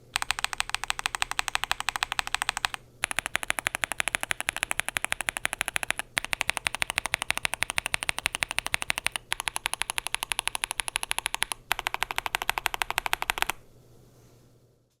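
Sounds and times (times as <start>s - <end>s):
mechanical keyboard typing: 0.0s - 13.6s.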